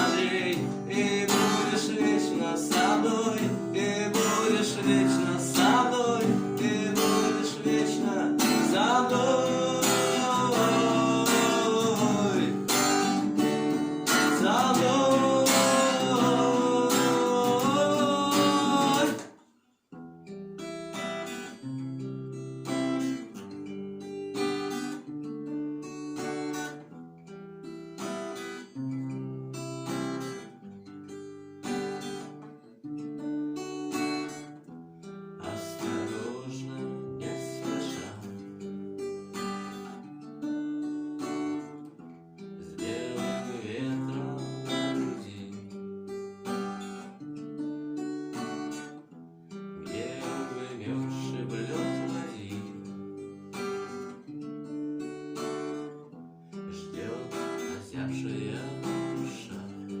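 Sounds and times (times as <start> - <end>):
acoustic guitar strumming: 0.0 - 60.0.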